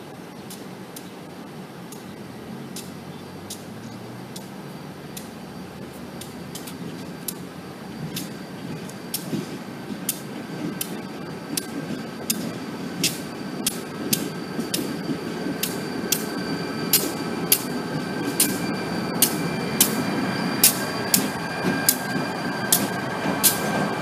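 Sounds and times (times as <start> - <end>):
diesel locomotive engine rumble: 0.0 - 24.0
ringing metallic clicks: 2.7 - 23.8.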